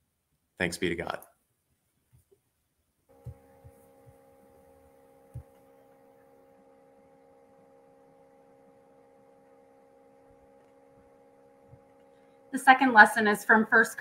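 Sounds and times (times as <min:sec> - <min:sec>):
faint steady hum: 0:02.2 - 0:14.0.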